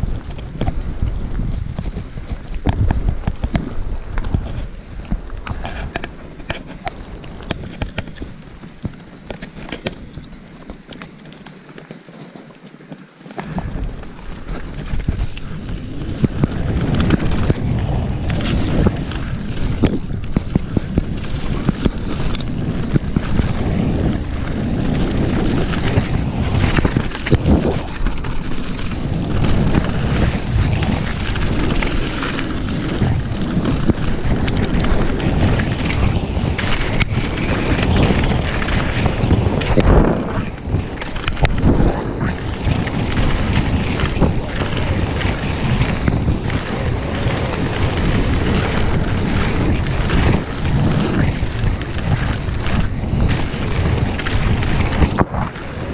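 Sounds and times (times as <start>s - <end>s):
wind buffeting microphone: 0.0s - 11.5s, 13.3s - 55.9s
bike knocks and clatters: 0.0s - 55.6s
bike tyres on rocky trail: 0.0s - 55.9s.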